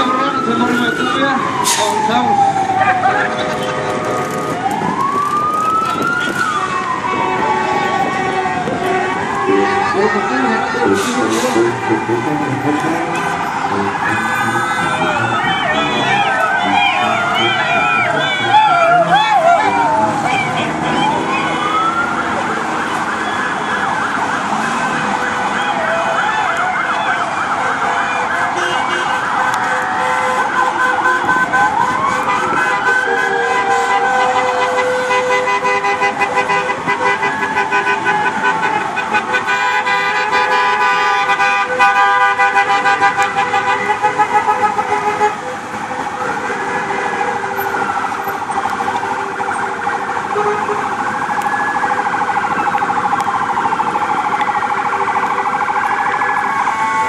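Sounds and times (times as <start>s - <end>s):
fast-pulsing siren: 0.0s - 57.0s
wailing sirens: 0.0s - 57.0s.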